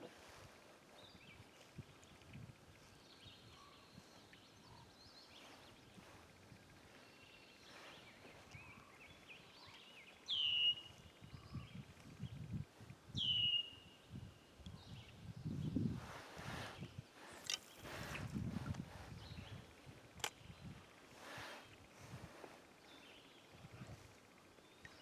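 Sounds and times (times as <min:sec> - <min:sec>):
faint chirping of birds: 0:00.0 - 0:25.0.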